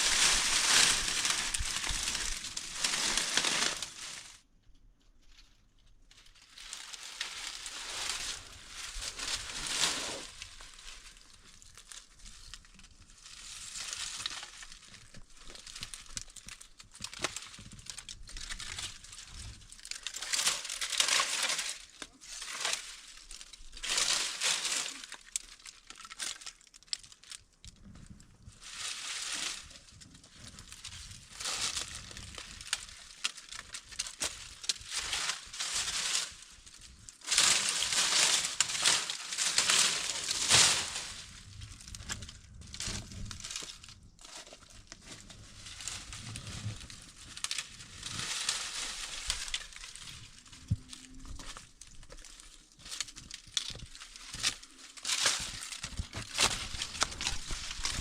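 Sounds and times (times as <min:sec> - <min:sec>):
material crinkling and rustling: 0:00.0 - 0:04.5, 0:05.2 - 0:58.0.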